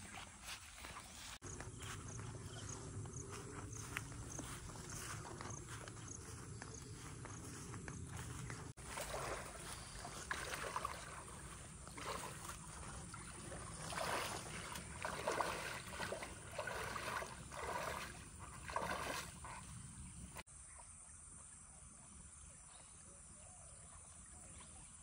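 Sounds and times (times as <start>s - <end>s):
water splashing and sloshing: 0.0s - 20.4s.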